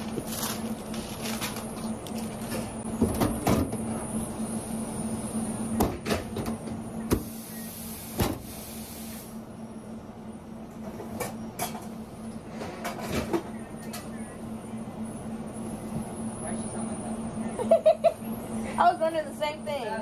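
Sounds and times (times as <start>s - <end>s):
kitchen equipment hum: 0.0s - 16.2s.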